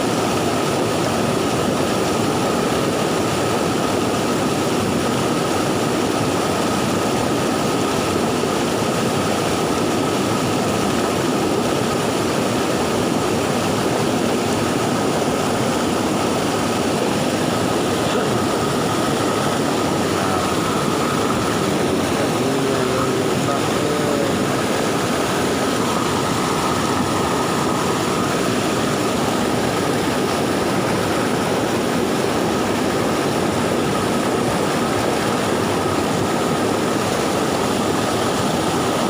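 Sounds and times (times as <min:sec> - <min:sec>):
river rushing fast: 0:00.0 - 0:39.0.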